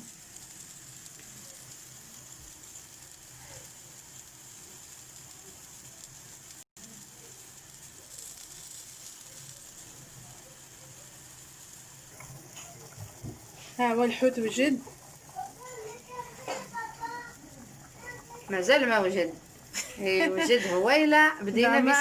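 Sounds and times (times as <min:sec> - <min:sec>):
food sizzling: 0:00.0 - 0:22.0.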